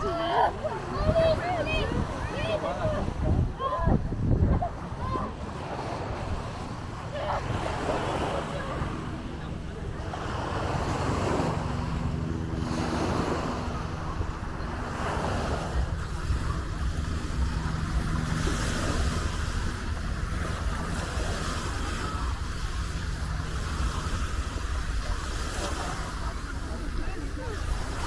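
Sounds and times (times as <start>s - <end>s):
motorboat droning: 0.0s - 28.0s
small waves breaking on sand: 0.0s - 28.0s
wind buffeting microphone: 0.0s - 28.0s.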